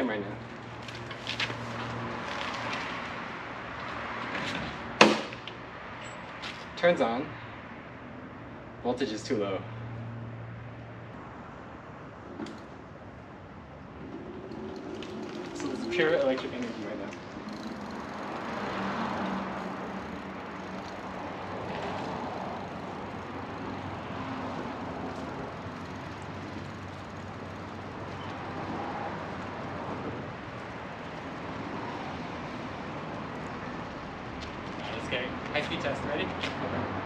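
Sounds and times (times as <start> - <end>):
traffic rushing: 0.0 - 37.0.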